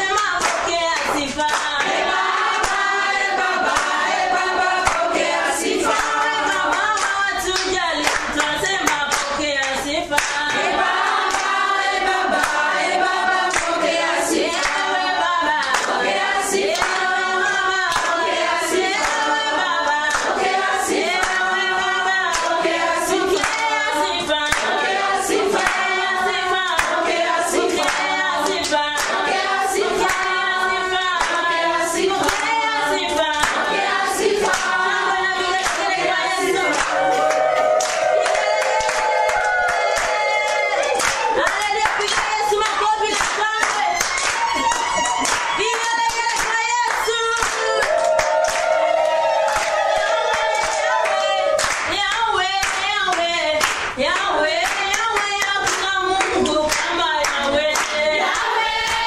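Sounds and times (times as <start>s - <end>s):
hand claps: 0.0s - 30.5s, 31.2s - 34.9s, 35.5s - 59.0s
group singing together: 0.0s - 59.0s.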